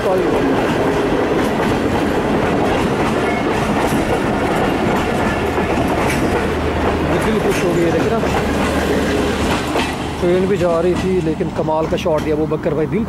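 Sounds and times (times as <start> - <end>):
passenger train passing: 0.0 - 13.0
wheels clacking over rail joints: 0.0 - 13.0.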